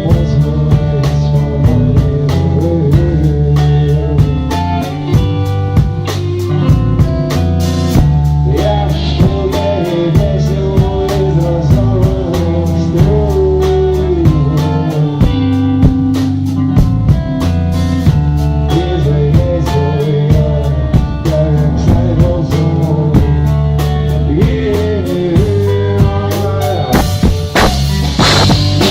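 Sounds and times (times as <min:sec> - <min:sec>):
band with guitar and drums: 0:00.0 - 0:28.9.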